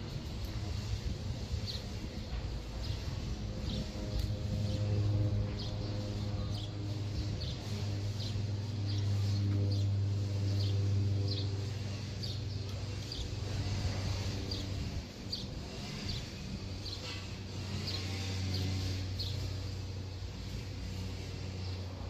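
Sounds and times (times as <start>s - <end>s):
propeller plane drone overhead: 0.0s - 22.0s.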